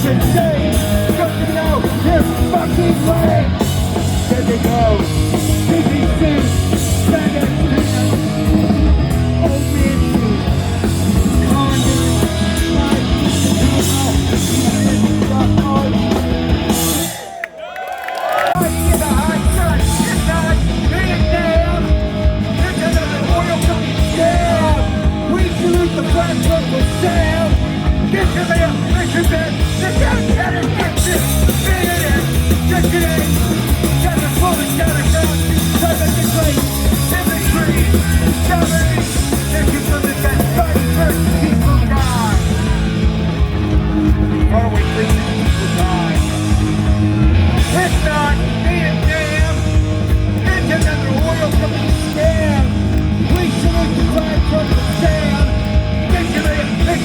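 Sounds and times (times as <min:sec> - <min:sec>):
shouted vocals: 0:00.0 - 0:16.0, 0:16.6 - 0:57.0
punk band playing live: 0:00.0 - 0:17.4, 0:18.4 - 0:57.0.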